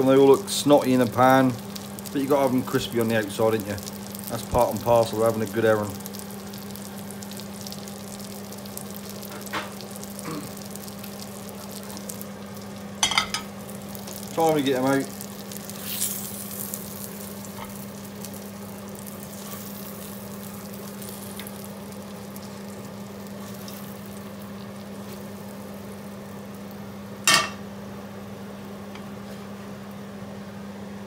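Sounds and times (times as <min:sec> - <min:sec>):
fish sizzling in frying pan: 0:00.0 - 0:27.8
extractor fan hum: 0:00.0 - 0:31.0.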